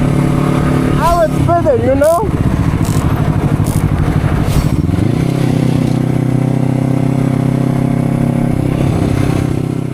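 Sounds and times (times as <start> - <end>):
motorcycle engine revving: 0.0 - 9.9.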